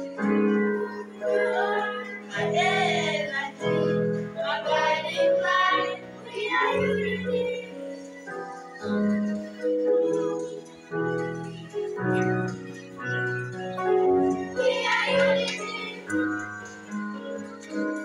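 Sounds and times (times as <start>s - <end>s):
children singing: 0.0s - 12.5s, 13.7s - 18.0s
electronic keyboard chords: 0.0s - 18.0s.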